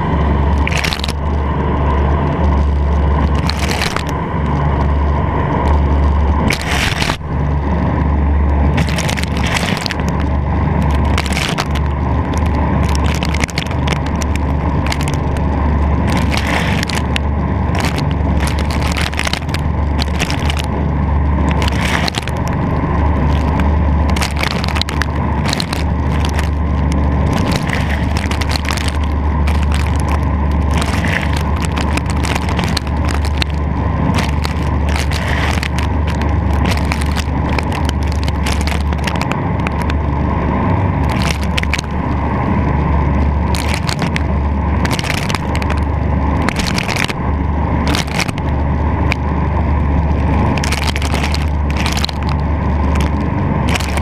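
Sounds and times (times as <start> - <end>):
boat engine drone: 0.0 - 54.0
water rushing along hull: 0.0 - 54.0
waves splashing against hull: 0.0 - 54.0.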